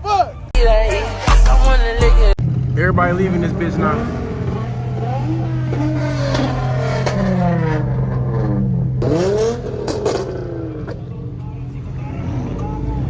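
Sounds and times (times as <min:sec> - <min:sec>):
low engine hum: 0:01.8 - 0:13.0
car engines revving: 0:01.9 - 0:13.0.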